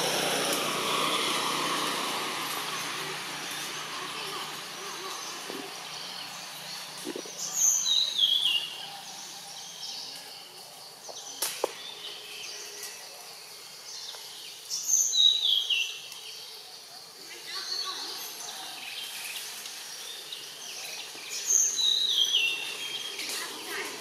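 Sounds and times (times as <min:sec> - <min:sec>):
bird singing: 0:00.2 - 0:24.0.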